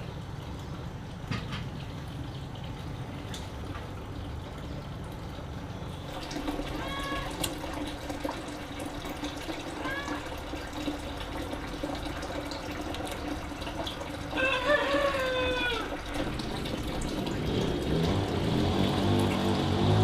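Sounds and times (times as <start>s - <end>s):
water running: 0.0s - 20.0s.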